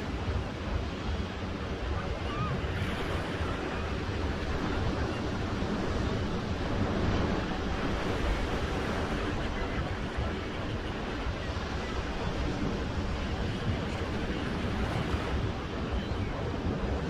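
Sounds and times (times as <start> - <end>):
waves washing on beach: 0.0 - 17.0.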